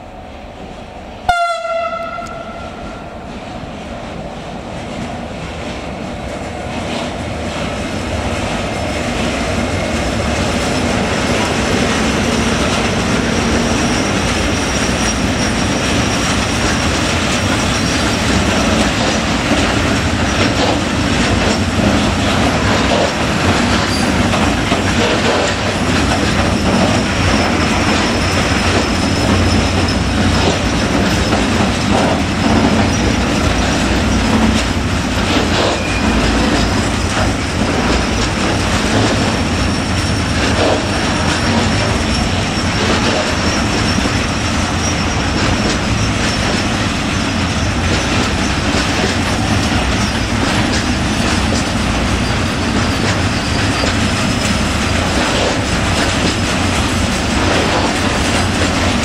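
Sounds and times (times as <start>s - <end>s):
train wheels clattering: 1.5s - 59.0s
train wheel squeal: 8.7s - 59.0s.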